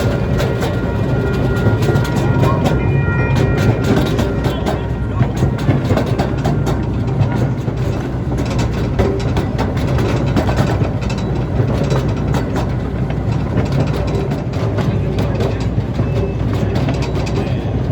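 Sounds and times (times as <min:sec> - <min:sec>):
train rumble: 0:00.0 - 0:17.9
wheels clicking over rail joints: 0:00.0 - 0:17.9.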